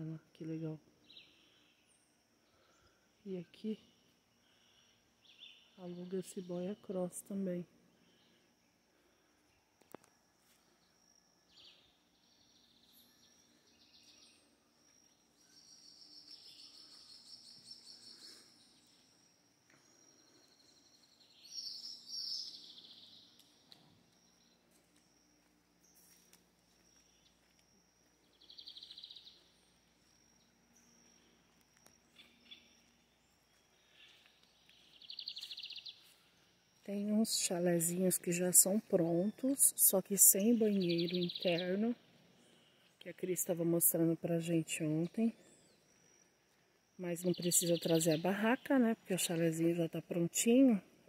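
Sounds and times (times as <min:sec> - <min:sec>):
thin high insect tone: 0:00.0 - 0:48.7.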